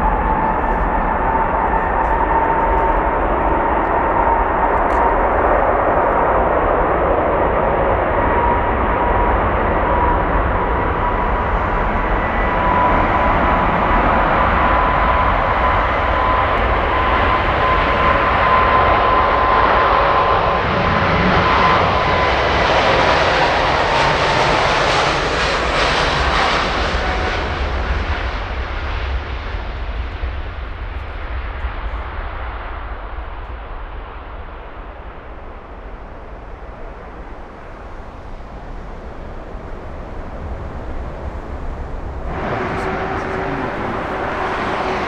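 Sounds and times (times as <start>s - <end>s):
jet airliner roaring past: 0.0s - 45.0s.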